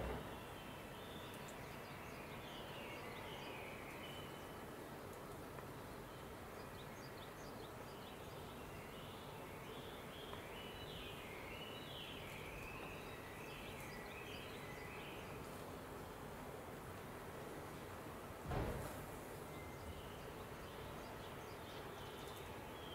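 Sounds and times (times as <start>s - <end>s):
songbird singing: 0.0s - 17.6s, 19.3s - 22.9s
steady outdoor hiss: 0.0s - 22.9s.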